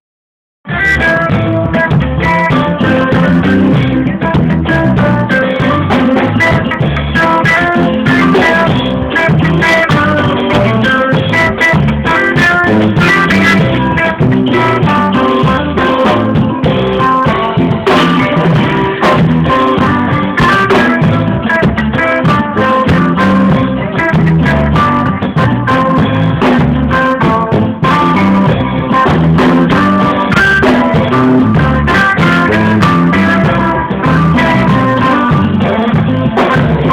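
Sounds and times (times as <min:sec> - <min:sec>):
drum kit beat: 0:00.7 - 0:36.9
electronic organ playing: 0:01.0 - 0:36.9.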